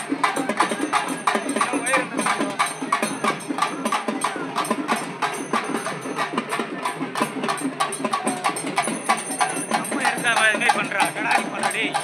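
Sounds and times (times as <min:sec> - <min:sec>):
crowd chatter: 0:00.0 - 0:12.0
procession drums beating: 0:00.0 - 0:12.0.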